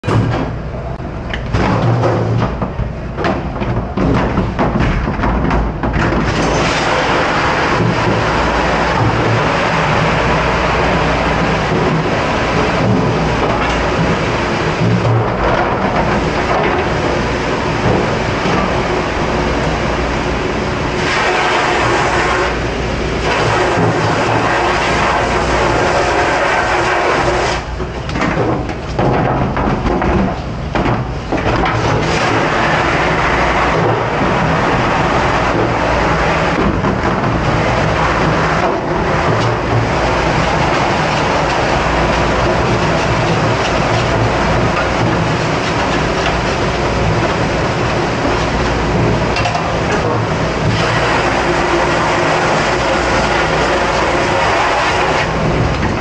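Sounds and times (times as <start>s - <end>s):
water spraying: 6.2s - 28.0s, 31.7s - 56.0s.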